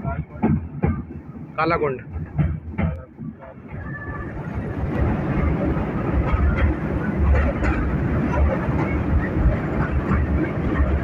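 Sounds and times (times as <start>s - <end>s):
train rumble from inside coach: 0.0s - 11.0s.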